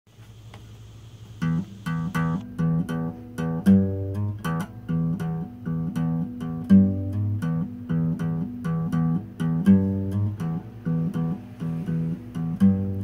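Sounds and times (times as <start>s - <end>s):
acoustic guitar strumming chords: 1.3s - 13.0s.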